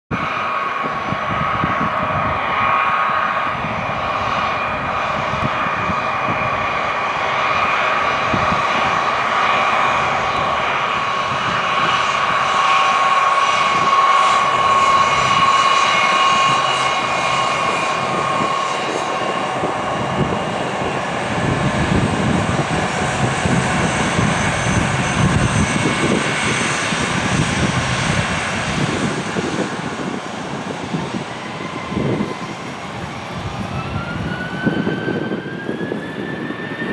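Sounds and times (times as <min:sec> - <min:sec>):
jet engines taxiing: 0:00.1 - 0:36.9.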